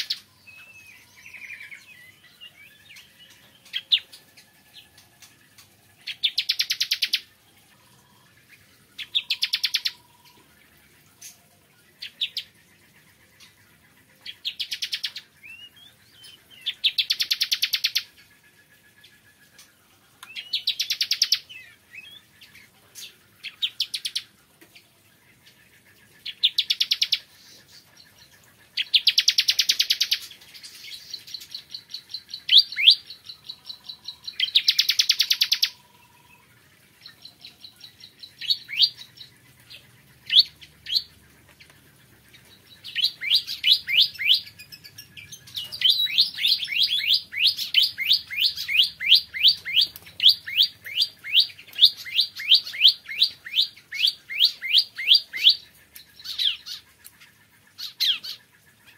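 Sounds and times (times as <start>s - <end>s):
bird trilling and chirping: 0.0s - 24.4s, 25.3s - 58.9s.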